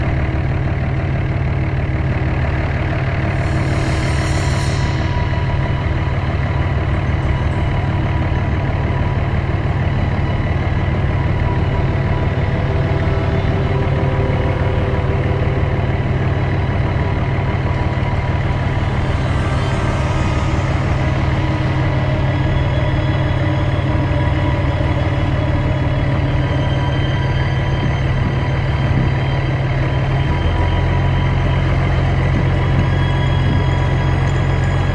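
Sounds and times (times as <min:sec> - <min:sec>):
engine humming steadily: 0:00.0 - 0:34.9.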